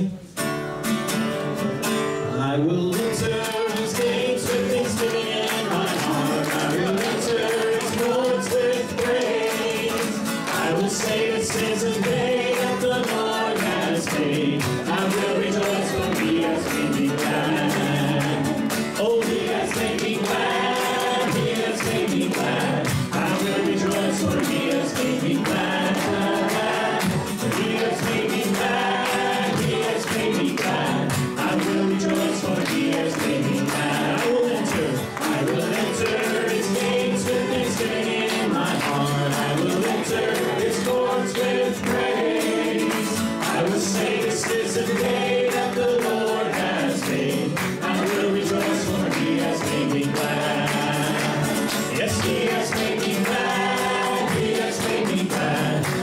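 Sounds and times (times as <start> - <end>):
acoustic guitar strumming: 0.0 - 56.0
man and woman singing duet: 2.4 - 56.0.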